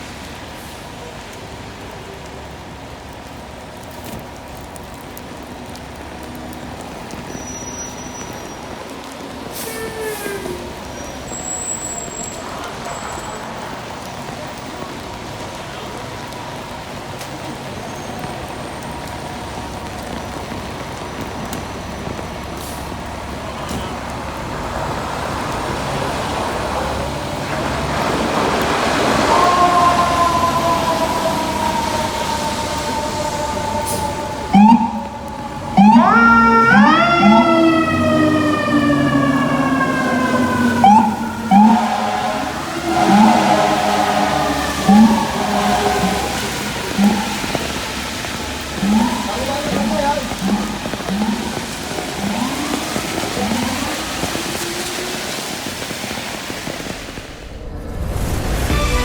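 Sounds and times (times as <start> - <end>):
city street noise: 0.0 - 59.0
fire truck siren: 0.0 - 59.0
heavy vehicle approaching: 4.4 - 59.0.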